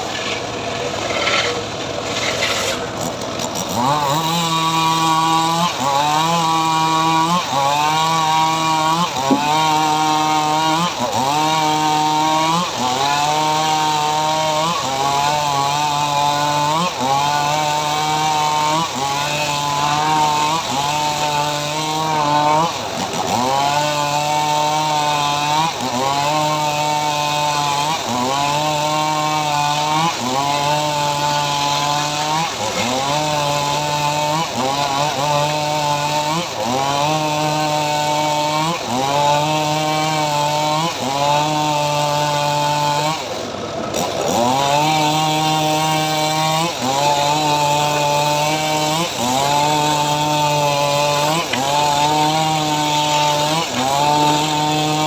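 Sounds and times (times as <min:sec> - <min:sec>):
engine-driven saw cutting wood: 0:00.0 - 0:55.0.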